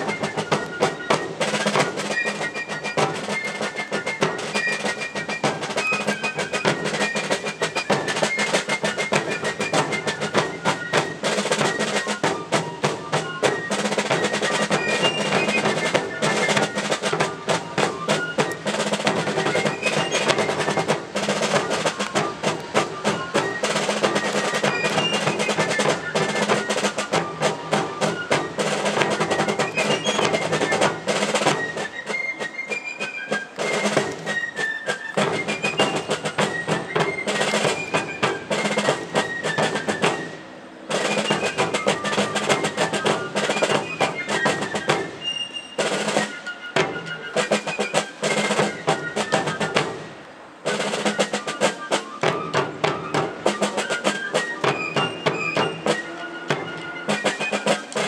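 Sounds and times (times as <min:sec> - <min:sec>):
snare drum rolls: 0:00.0 - 0:58.0.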